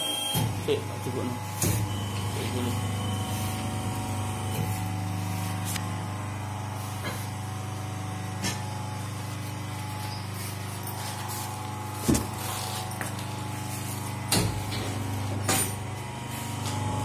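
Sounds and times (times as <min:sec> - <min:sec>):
machine motor humming: 0:00.0 - 0:17.0.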